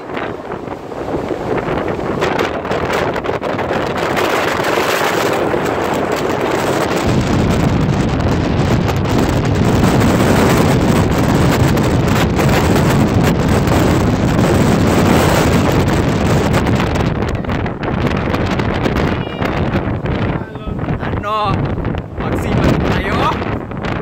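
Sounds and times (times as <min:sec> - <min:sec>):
gale wind buffeting microphone: 0:00.0 - 0:24.0.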